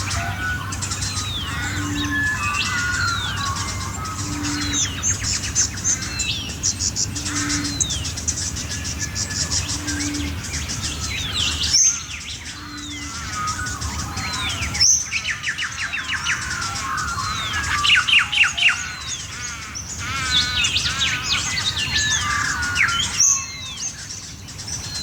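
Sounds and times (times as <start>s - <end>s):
low steady bird note: 0.0s - 23.5s
high bird chirps and trills: 0.0s - 25.0s.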